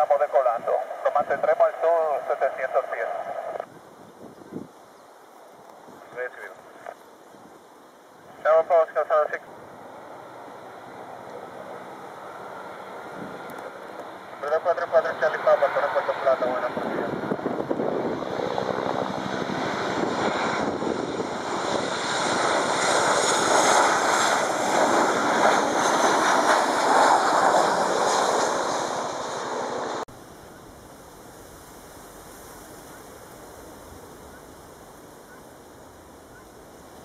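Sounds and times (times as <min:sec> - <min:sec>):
jet engines passing overhead: 0:00.0 - 0:37.0.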